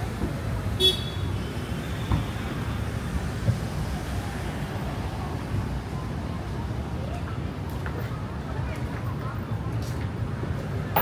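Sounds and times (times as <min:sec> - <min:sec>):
street noise: 0:00.0 - 0:11.0
traffic rumble: 0:00.0 - 0:11.0.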